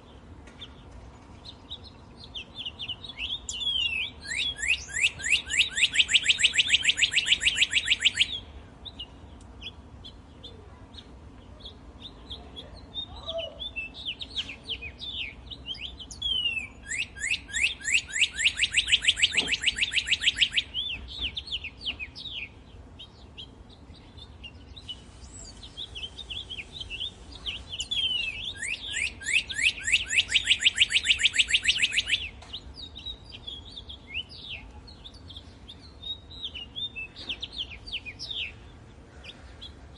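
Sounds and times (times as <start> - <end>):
birds chirping and singing: 0.0 - 39.9
loud rapid bird trills: 0.6 - 10.3, 11.0 - 39.9.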